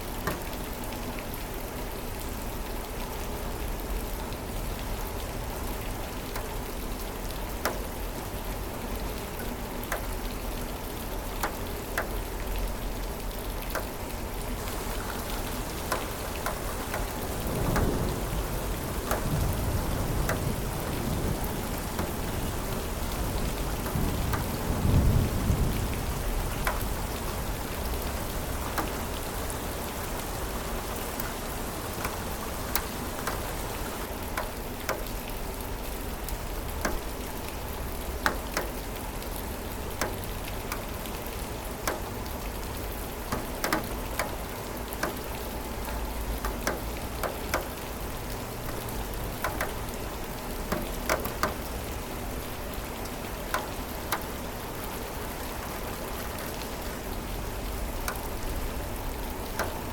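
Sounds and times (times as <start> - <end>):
raindrops ticking: 0.0 - 59.9
steady rain falling: 0.0 - 59.9.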